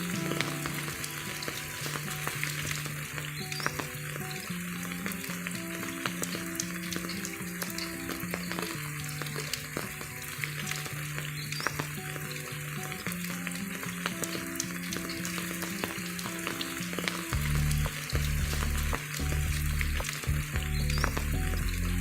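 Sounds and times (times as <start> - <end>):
slow background music: 0.0 - 11.0, 11.8 - 22.0
rain falling steadily: 0.0 - 22.0.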